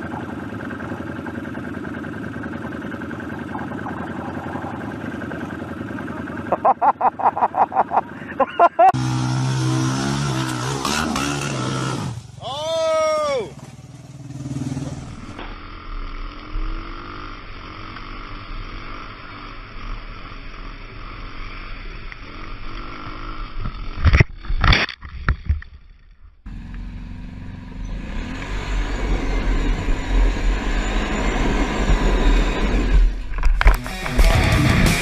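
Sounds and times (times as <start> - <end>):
loud engine running: 0.0 - 24.1, 26.5 - 35.0
quad bike engine running: 0.0 - 24.6, 26.5 - 35.0.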